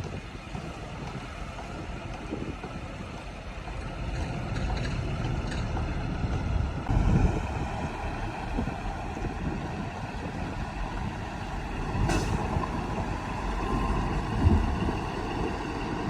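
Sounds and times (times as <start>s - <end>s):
heavy diesel machinery rumbling: 0.0s - 16.0s.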